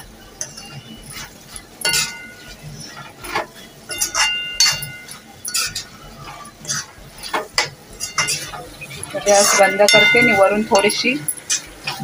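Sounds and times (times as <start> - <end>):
metal spatula scraping a pan: 0.2 - 12.0.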